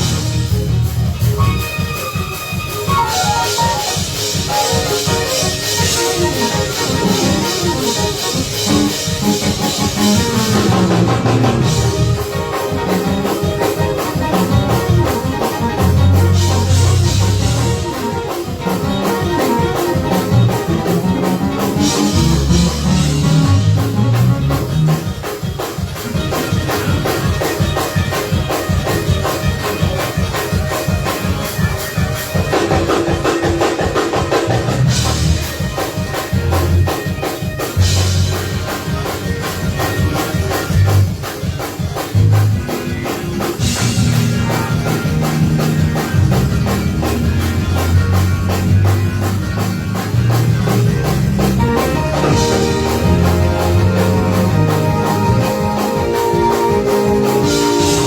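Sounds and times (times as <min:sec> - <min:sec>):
bass guitar: 0:00.0 - 0:58.0
drum kit: 0:00.0 - 0:58.0
gospel church band playing: 0:00.0 - 0:58.0.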